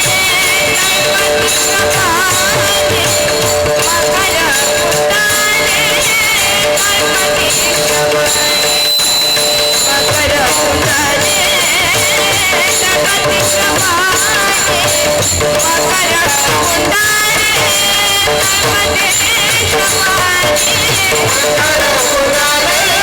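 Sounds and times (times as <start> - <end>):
drum beat: 0.0 - 23.0
hand cymbals jingling: 0.0 - 23.0
person singing with vibrato: 0.0 - 23.0.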